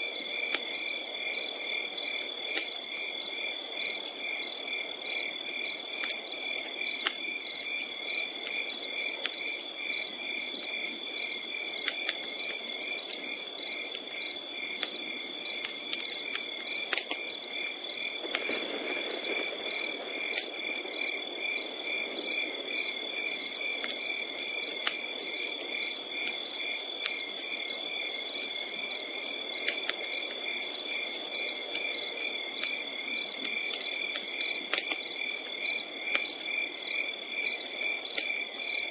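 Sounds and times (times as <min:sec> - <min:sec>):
campfire crackling: 0:00.0 - 0:38.9
crickets chirping: 0:00.0 - 0:38.9.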